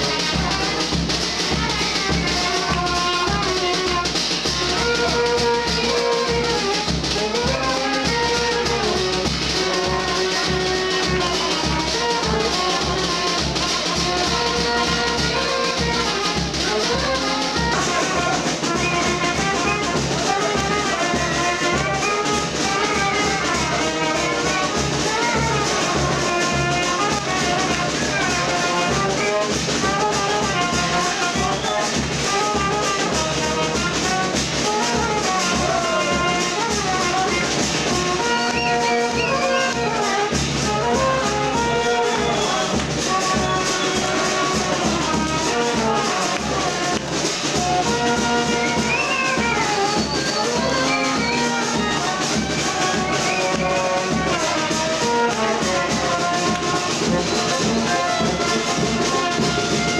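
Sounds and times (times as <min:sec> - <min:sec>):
drum beat: 0:00.0 - 0:59.9
trumpets playing melody: 0:00.0 - 0:59.9.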